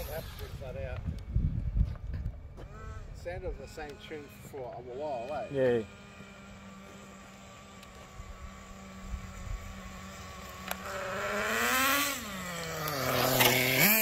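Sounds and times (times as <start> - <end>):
rc car engine revving: 0.0 - 0.9, 2.6 - 14.0.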